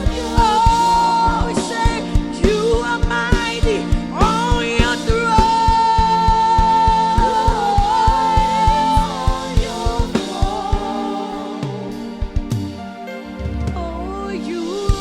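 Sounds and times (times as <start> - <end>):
steady drum beat: 0.0 - 14.0
gospel worship band playing: 0.0 - 15.0.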